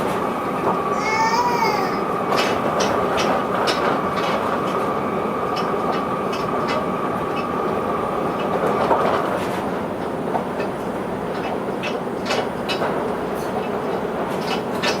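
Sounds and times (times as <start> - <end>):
train running noise with whine: 0.0 - 15.0.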